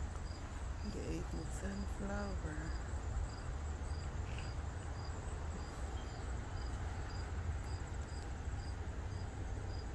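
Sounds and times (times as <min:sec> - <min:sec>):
crickets chirping: 0:00.0 - 0:09.9
high insect trill: 0:00.0 - 0:09.9.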